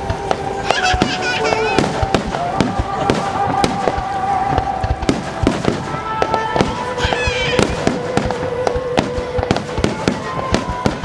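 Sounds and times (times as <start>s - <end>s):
background music with held tones: 0.0s - 11.0s
fireworks bursting: 0.0s - 11.0s.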